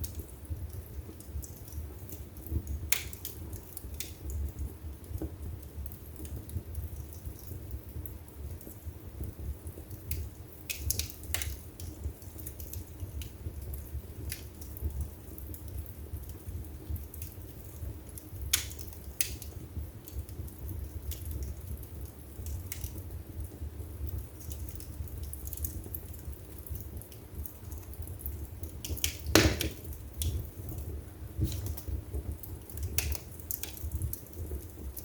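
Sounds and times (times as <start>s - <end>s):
fire crackling and popping: 0.0s - 35.0s
fire flames rumbling: 0.0s - 35.0s.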